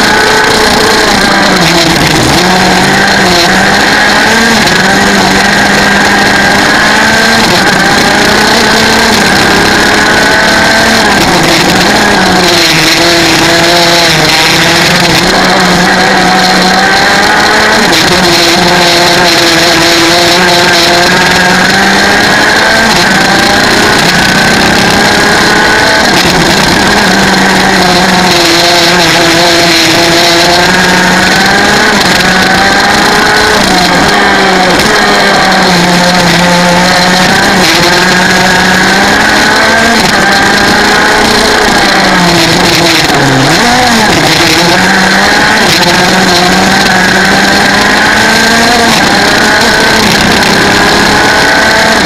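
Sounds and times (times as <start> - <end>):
kart engine revving: 0.0 - 52.0.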